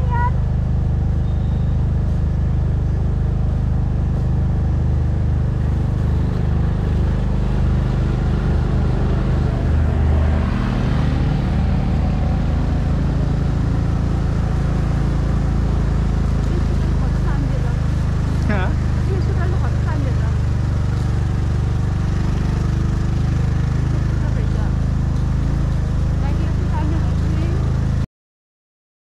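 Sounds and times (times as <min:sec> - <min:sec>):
motorcycle engine running: 0:00.0 - 0:28.0
road and air noise: 0:00.0 - 0:28.0.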